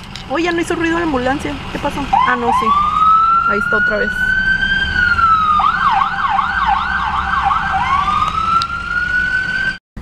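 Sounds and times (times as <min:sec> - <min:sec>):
ambulance siren: 0:01.1 - 0:09.8.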